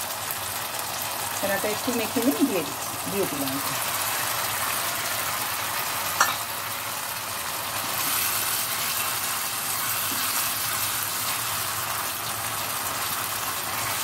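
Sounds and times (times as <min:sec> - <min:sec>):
food sizzling in oil in a pan: 0:00.0 - 0:14.0.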